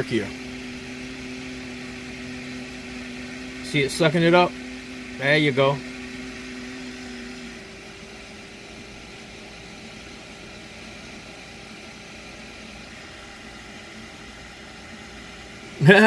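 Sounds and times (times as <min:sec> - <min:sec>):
small electric fan whirring: 0:00.0 - 0:16.0.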